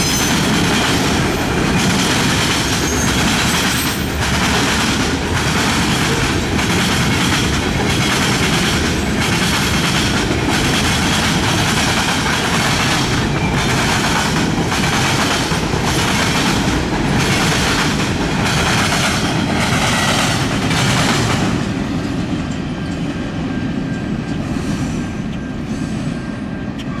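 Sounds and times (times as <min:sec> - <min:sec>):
train wheels clacking over rail joints: 0:00.0 - 0:21.8
heavy train rumble: 0:00.0 - 0:27.0.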